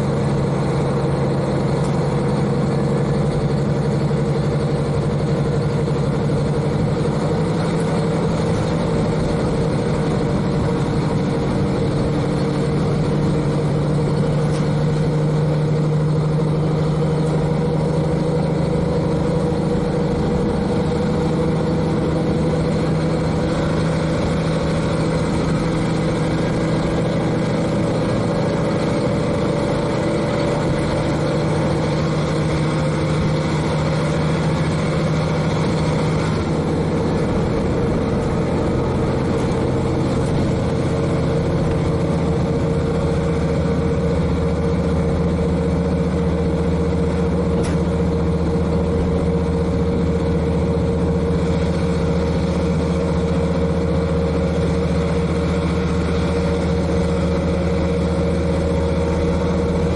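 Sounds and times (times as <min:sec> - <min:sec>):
diesel railcar engine running: 0:00.0 - 0:59.9
train rumbling along track: 0:00.0 - 0:59.9.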